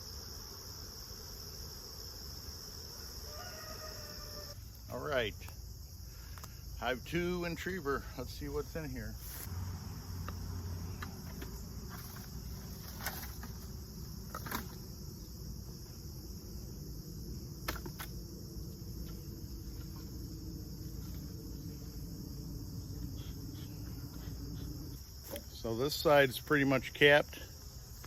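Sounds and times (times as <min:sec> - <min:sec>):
high insect chirring: 0:00.0 - 0:28.0
honeybees humming: 0:00.0 - 0:28.0.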